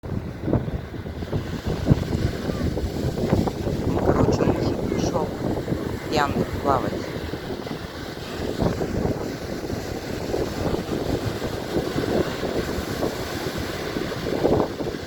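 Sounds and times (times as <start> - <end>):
rough sea: 0.0 - 15.0
storm wind buffeting microphone: 0.0 - 15.0.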